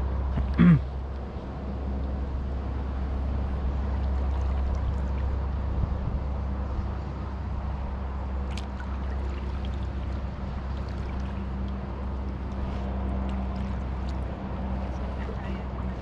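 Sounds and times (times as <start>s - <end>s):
steady low rumble: 0.0s - 16.0s
water lapping at hull: 0.0s - 16.0s.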